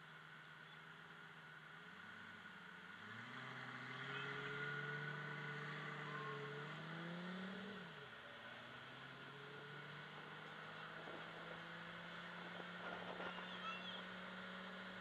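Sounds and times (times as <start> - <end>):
car engine accelerating: 1.8 - 15.0.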